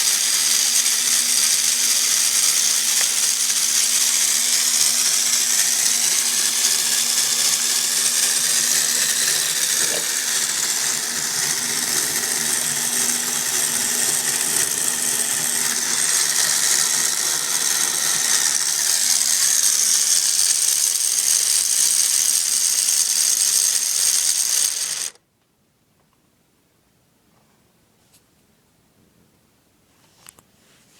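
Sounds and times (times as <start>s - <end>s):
toy motor whirring plastic gears: 0.0s - 25.2s.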